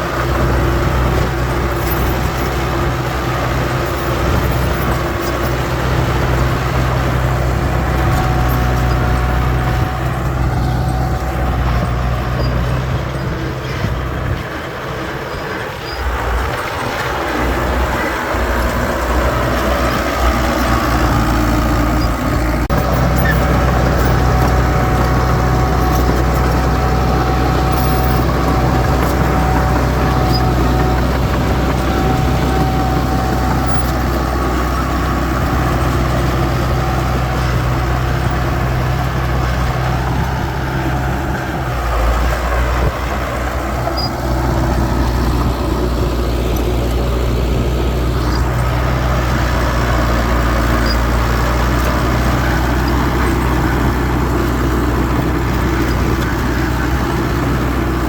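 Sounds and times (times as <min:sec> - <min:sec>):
heavy machinery diesel engines droning: 0:00.0 - 0:58.0.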